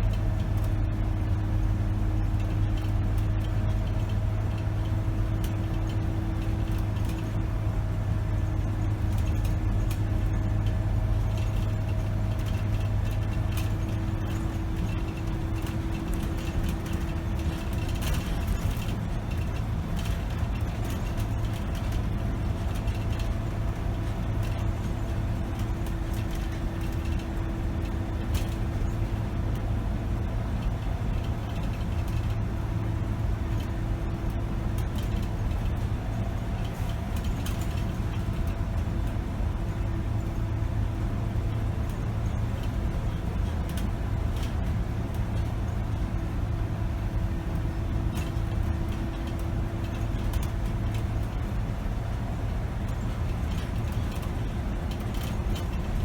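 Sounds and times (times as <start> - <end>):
bus body clicks and rattles: 0.0 - 56.0
diesel bus engine droning: 0.0 - 56.0.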